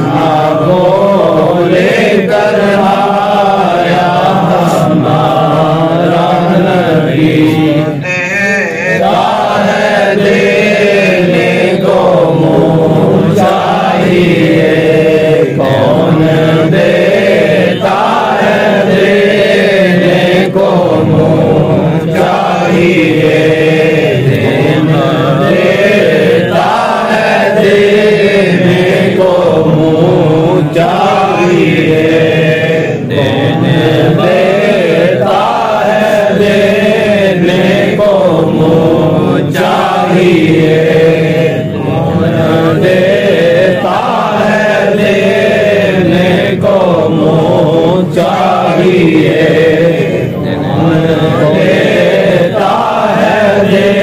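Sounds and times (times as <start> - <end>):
man chanting melodic recitation: 0.0 - 54.0.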